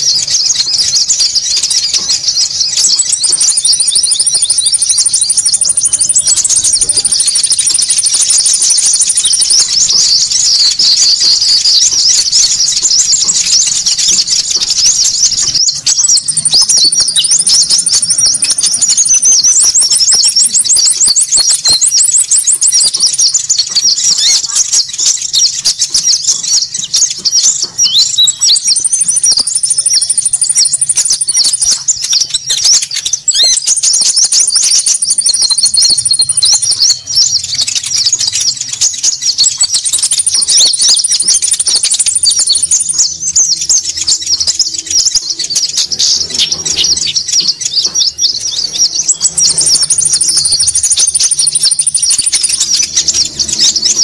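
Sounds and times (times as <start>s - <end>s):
birds chattering calls: 0.0s - 54.0s
thin high bird trill: 0.0s - 54.0s.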